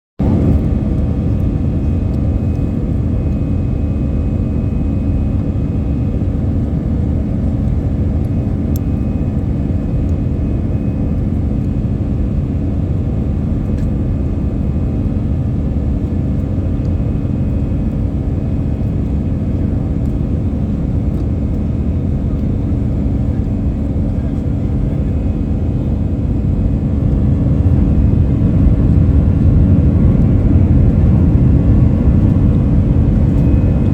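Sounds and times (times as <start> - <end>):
airliner cabin drone: 0.2 - 33.9.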